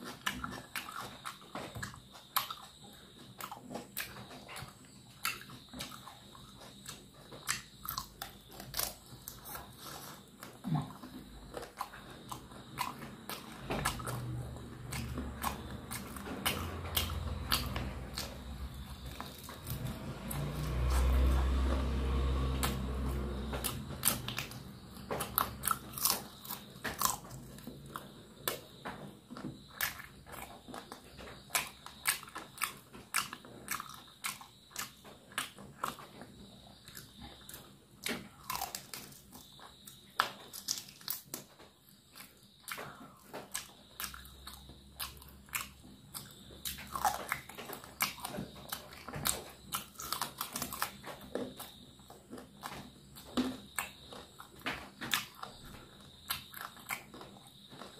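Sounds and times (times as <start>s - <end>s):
person chewing with crunches: 0.0s - 57.9s.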